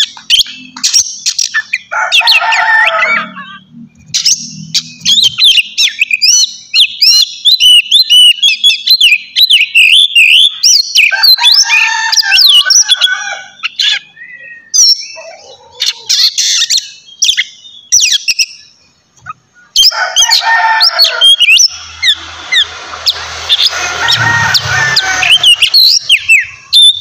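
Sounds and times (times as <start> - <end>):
bird singing: 0.0 - 27.0.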